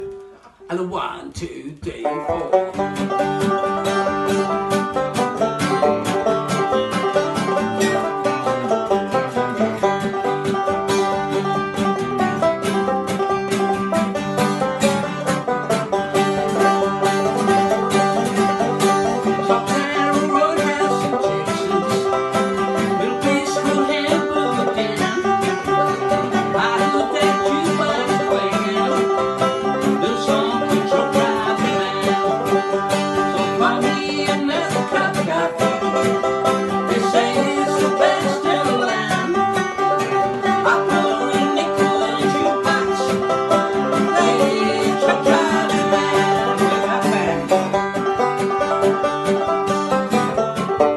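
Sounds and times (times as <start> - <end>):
guitar picking: 0.0 - 0.8, 1.7 - 50.9
banjo picking: 0.0 - 50.9.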